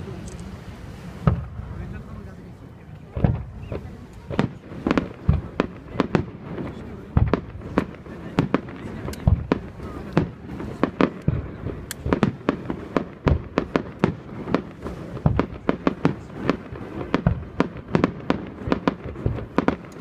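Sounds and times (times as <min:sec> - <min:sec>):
deep firework booms: 0:01.0 - 0:02.3, 0:03.1 - 0:20.0
fireworks popping and banging: 0:01.2 - 0:20.0.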